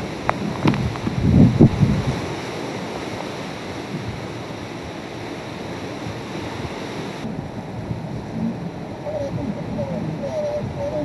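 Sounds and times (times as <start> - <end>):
hurricane wind: 0.0 - 11.0
wind-driven rain: 0.0 - 11.0.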